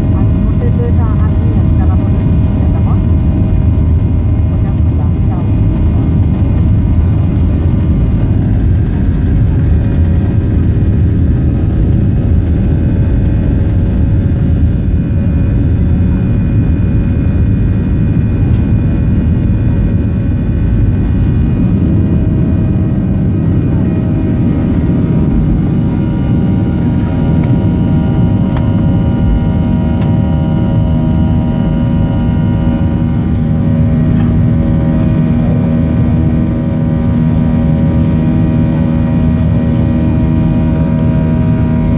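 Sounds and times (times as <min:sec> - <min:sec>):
jet engines running: 0:00.0 - 0:41.9.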